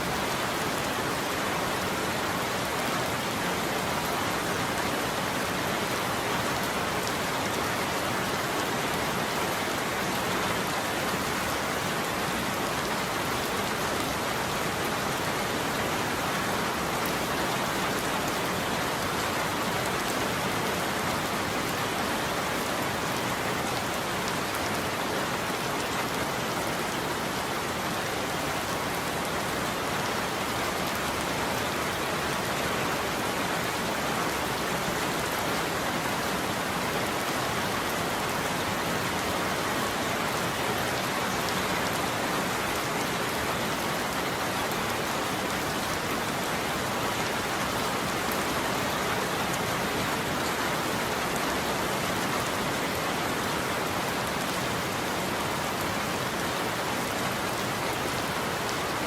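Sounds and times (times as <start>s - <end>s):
heavy rain on a roof: 0.0s - 59.0s.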